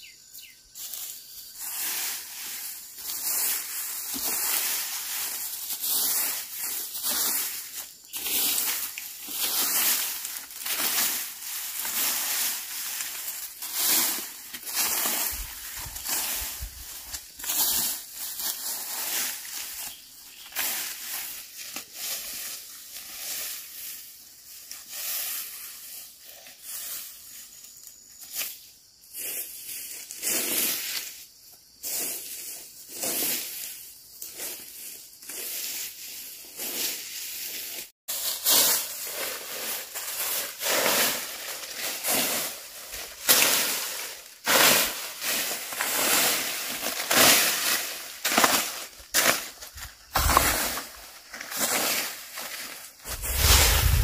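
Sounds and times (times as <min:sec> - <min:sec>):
dry grass raked over soil: 0:00.0 - 0:54.0.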